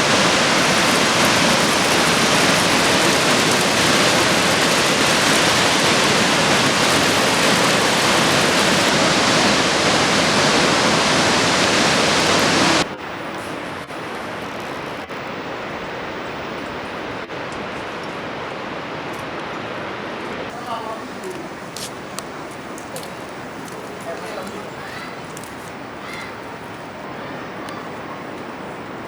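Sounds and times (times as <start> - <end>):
waterfall: 0.0 - 29.0.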